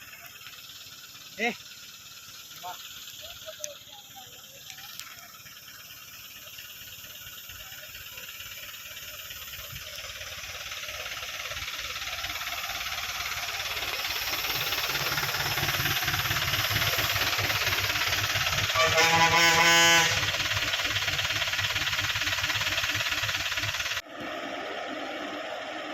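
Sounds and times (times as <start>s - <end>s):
vehicle engine and tyre noise: 0.0s - 25.9s.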